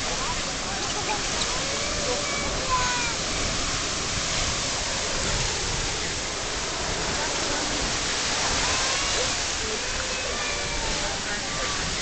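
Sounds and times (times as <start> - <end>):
geyser water rushing and splashing: 0.0 - 12.0.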